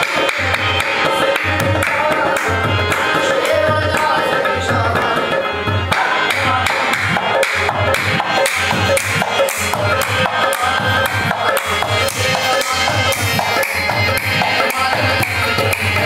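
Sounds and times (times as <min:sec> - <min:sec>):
harmonium: 0:00.0 - 0:16.0
rhythmic hand clapping: 0:00.0 - 0:16.0
voices singing: 0:00.0 - 0:16.0.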